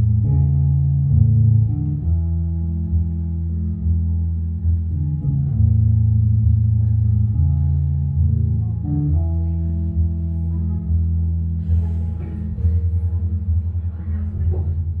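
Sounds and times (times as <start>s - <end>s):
low bass notes: 0.0s - 15.0s
plucked guitar: 0.0s - 15.0s.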